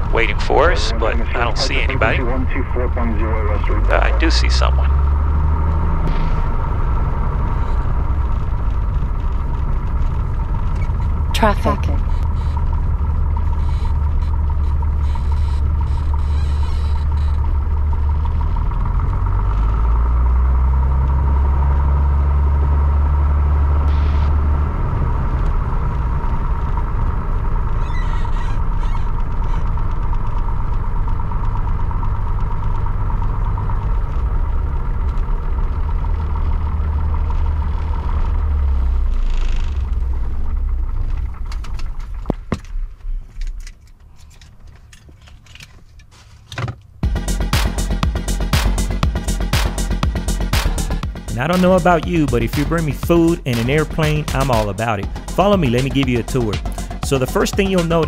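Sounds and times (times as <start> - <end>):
engine stuttering to a stop: 0.0 - 58.0
piston aircraft engine running: 0.0 - 58.0.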